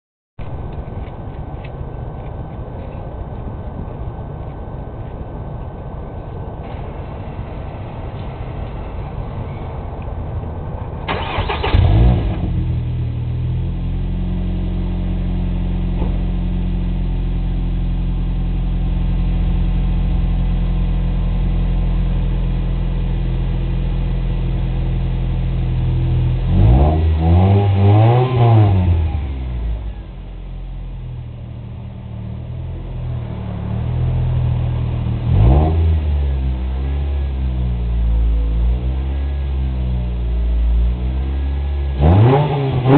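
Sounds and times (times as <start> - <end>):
car engine starting and revving: 6.6 - 42.9.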